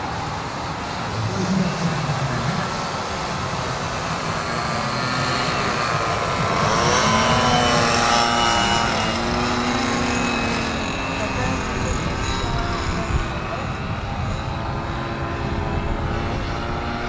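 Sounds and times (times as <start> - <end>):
model aircraft engines buzzing: 0.0 - 17.0
steady low rumble: 0.9 - 16.5.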